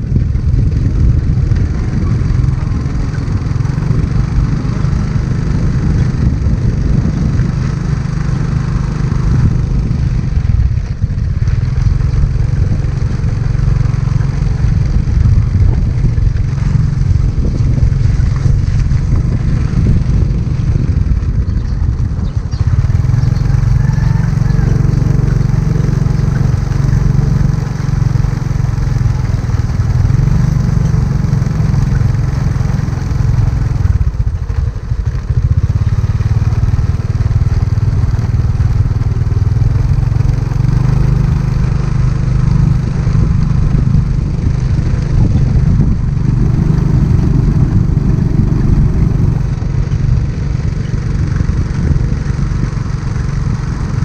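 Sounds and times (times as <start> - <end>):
motorbike engine running: 0.0 - 54.0
wind rumbling on microphone: 0.0 - 54.0.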